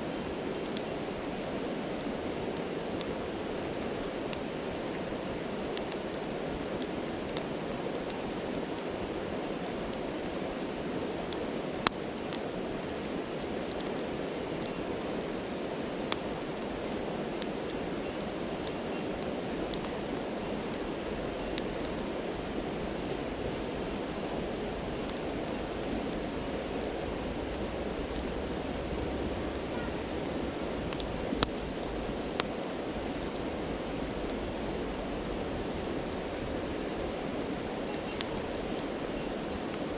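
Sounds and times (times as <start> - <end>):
campfire crackling and popping: 0.0 - 39.9
stream rushing: 0.0 - 39.9.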